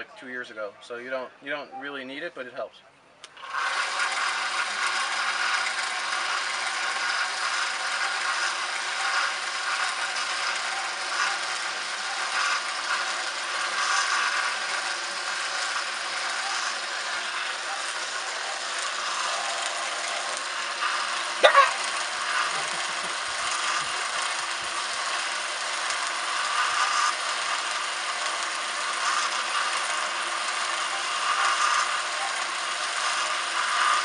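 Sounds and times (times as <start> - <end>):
belt sander running: 3.2 - 34.0.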